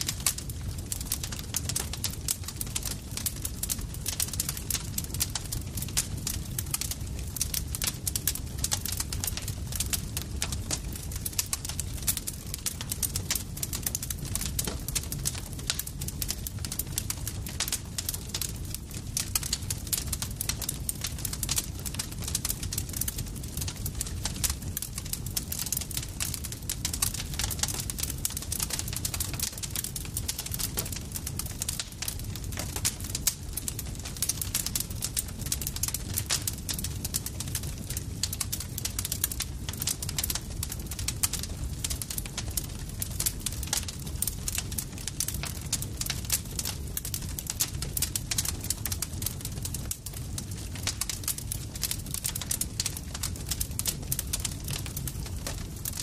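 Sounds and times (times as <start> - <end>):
campfire crackling and popping: 0.0 - 56.0
low rumble of burning wood: 0.0 - 56.0.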